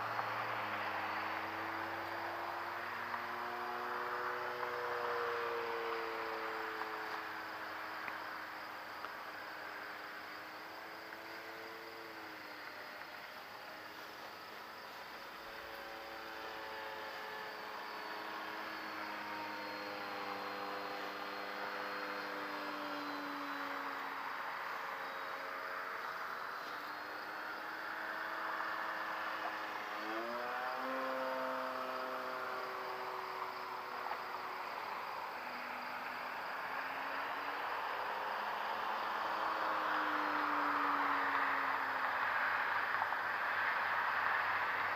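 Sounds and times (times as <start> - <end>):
model plane motor whining: 0.0 - 44.9.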